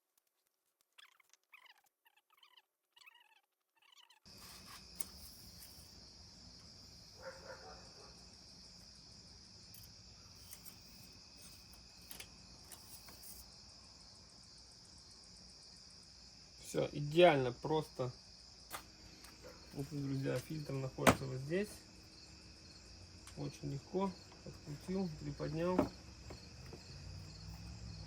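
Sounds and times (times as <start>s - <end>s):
crickets chirring: 4.3s - 28.0s.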